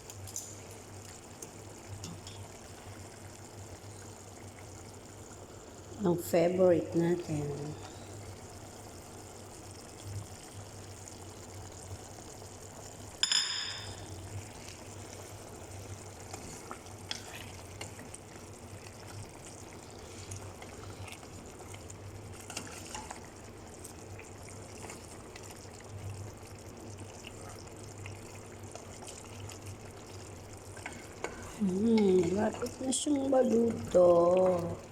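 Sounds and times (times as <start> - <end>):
food bubbling in a pot: 0.0 - 34.9.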